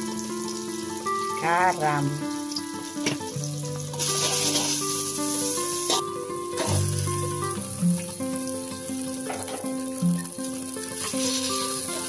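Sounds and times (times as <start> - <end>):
background music with held notes: 0.0 - 12.0
paste sizzling in hot oil: 0.0 - 12.0.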